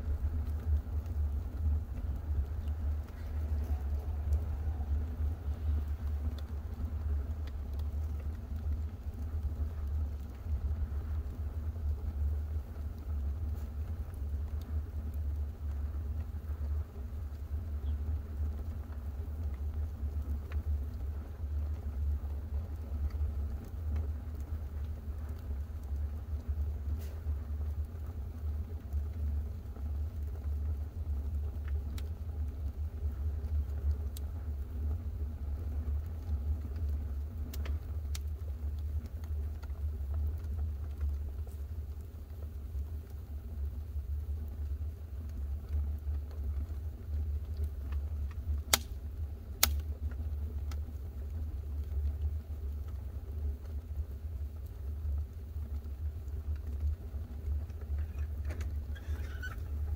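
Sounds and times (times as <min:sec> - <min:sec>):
faint ticks: 0:00.0 - 0:59.9
wood stove fire rumbling: 0:00.0 - 0:59.9.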